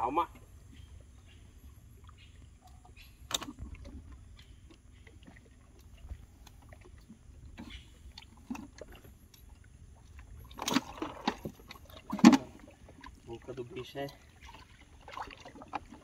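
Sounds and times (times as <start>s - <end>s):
knocks and clatter in a boat: 2.0s - 16.0s.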